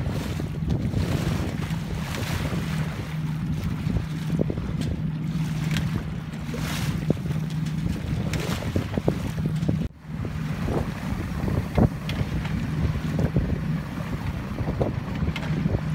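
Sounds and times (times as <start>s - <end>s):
low engine hum: 0.0s - 15.9s
water splashing along hull: 0.0s - 15.9s
wind buffeting microphone: 0.0s - 15.9s.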